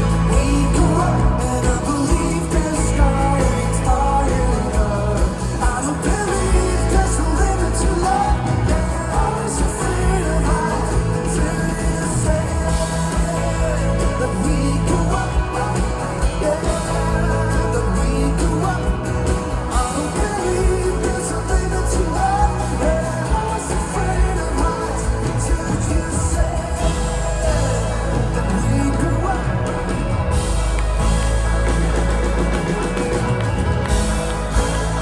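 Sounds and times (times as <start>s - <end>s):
folk-rock band playing live: 0.0s - 35.0s
person singing: 0.0s - 35.0s
steady low bass: 0.0s - 35.0s.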